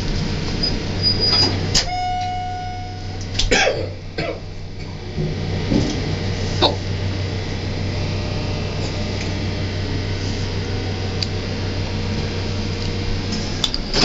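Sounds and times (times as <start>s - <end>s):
elevator cab humming: 0.0s - 14.0s.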